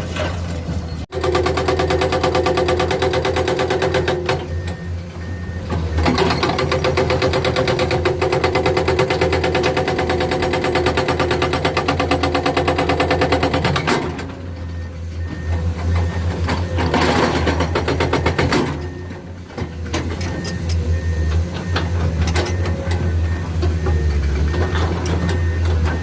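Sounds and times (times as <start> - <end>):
diesel engine clattering: 0.0 - 26.0.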